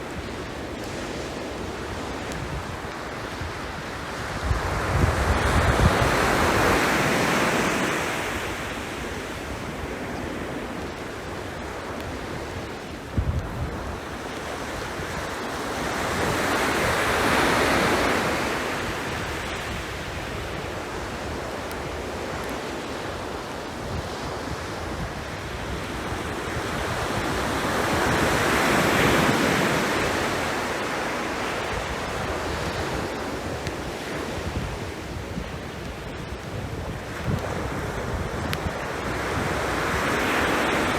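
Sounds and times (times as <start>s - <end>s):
sea waves breaking on shore: 0.0s - 40.9s
wind buffeting microphone: 0.0s - 40.9s.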